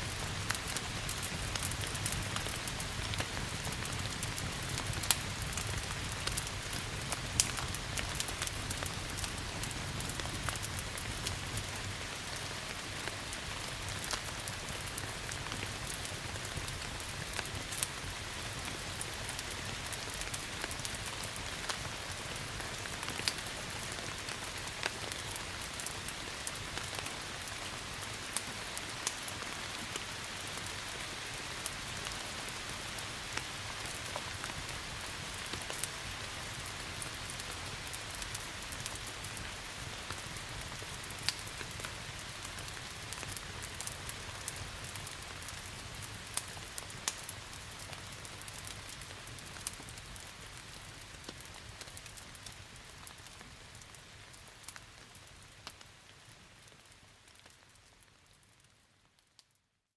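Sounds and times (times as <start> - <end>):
steady rain: 0.0 - 59.2
wood fire crackling: 0.0 - 59.2.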